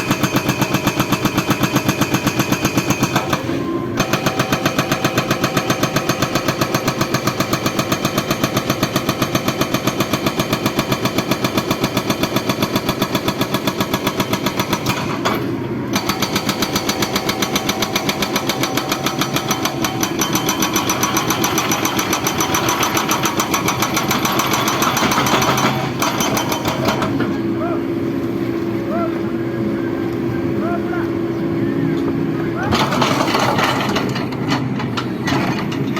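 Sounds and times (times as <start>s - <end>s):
excavator diesel engine pulsing: 0.0s - 35.9s.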